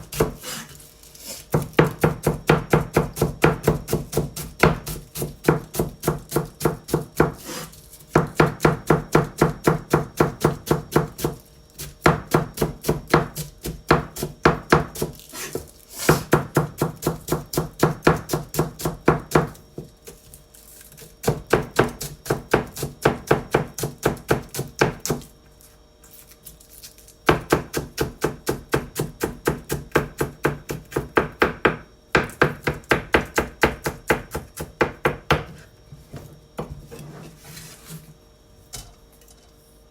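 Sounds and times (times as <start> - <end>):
knife chopping cabbage on board: 0.0 - 25.3, 27.2 - 35.6.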